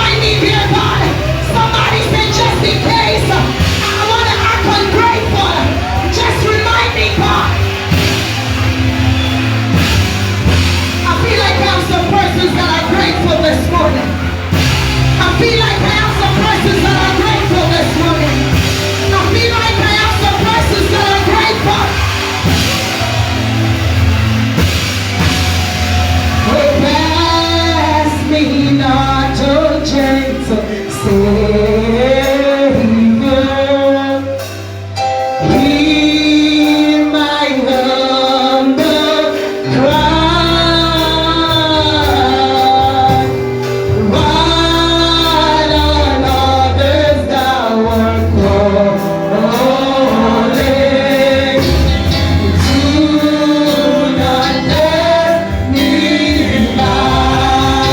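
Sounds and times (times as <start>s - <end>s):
gospel choir singing: 0.0s - 34.5s, 35.4s - 57.9s
instrumental backing with bass: 0.0s - 57.9s.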